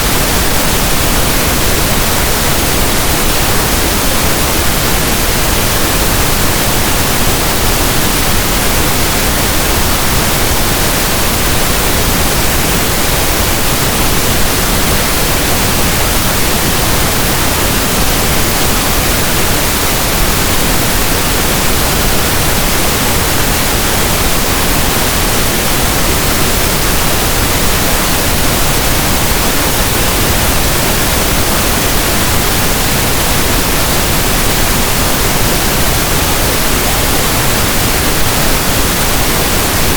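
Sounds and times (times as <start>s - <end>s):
pink noise static hiss: 0.0s - 39.9s.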